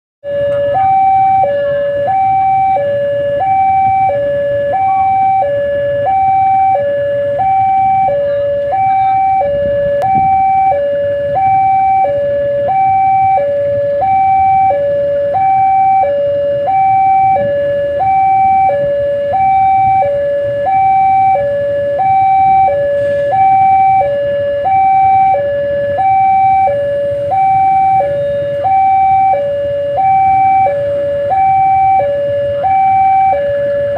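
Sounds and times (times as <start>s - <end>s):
two-tone level-crossing alarm: 0.2s - 33.9s.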